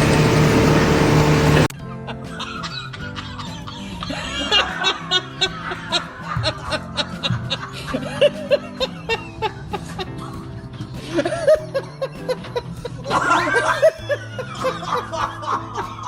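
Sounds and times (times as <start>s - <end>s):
person laughing: 1.6s - 16.0s.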